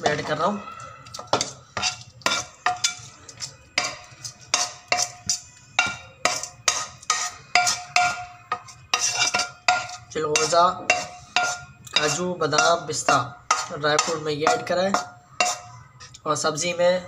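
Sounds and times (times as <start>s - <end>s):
spatula clinking on metal pot: 0.0s - 16.2s.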